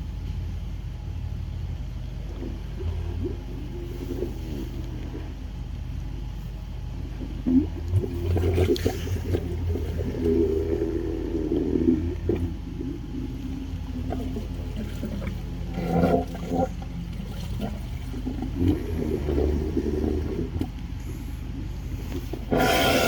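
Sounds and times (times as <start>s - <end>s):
machinery humming: 0.0s - 23.0s
water gurgling through a pipe: 1.7s - 23.0s.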